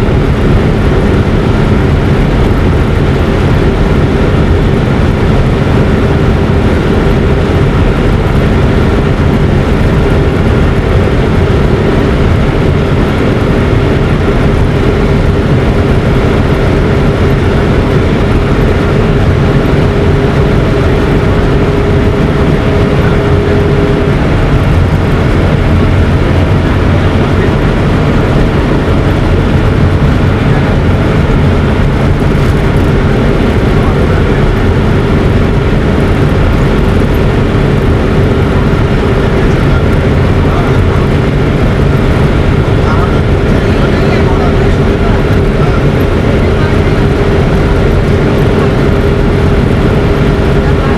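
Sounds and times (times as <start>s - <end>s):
steady hum: 0.0s - 50.9s
vehicle running loudly: 0.0s - 50.9s.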